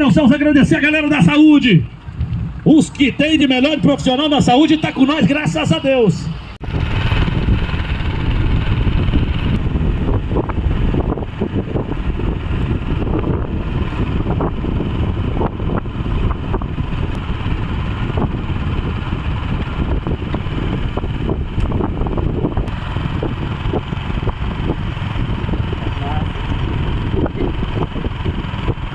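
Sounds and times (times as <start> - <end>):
wind buffeting microphone: 0.0 - 5.7, 6.3 - 28.9
vehicle engine running: 4.1 - 28.9.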